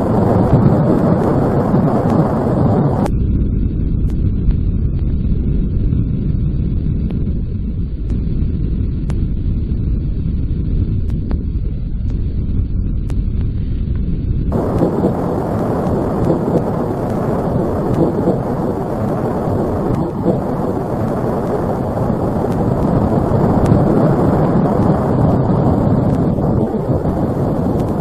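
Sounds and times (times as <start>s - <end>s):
strong wind rushing: 0.0s - 28.0s
wind buffeting microphone: 0.0s - 28.0s.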